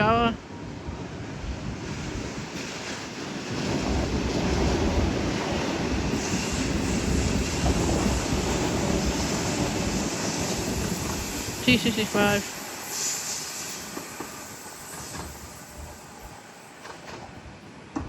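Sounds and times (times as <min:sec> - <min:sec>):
train wheels rumbling on rails: 0:00.6 - 0:18.0.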